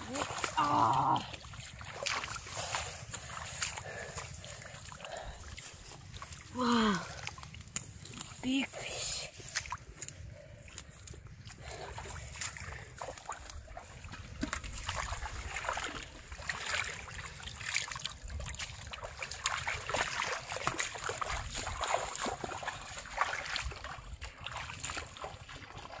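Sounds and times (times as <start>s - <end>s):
feet wading through water: 0.0s - 26.0s
muddy water splashing: 0.0s - 26.0s.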